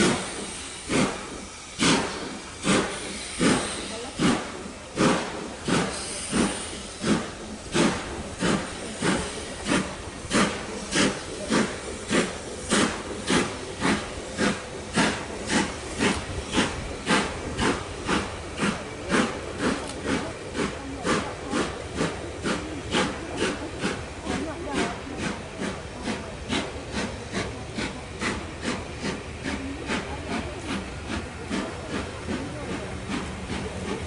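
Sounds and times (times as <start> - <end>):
steam hiss: 0.0 - 34.0
steam locomotive exhaust chuffs: 0.0 - 34.0.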